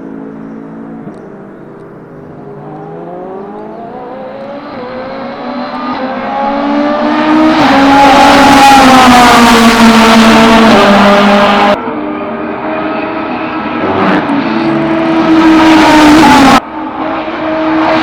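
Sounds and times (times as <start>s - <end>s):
race car accelerating: 0.1s - 18.0s.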